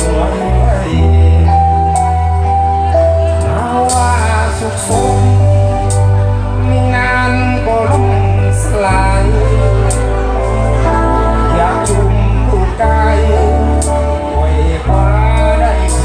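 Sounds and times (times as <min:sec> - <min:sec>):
live band playing pop-rock: 0:00.0 - 0:16.0
person singing: 0:00.0 - 0:16.0.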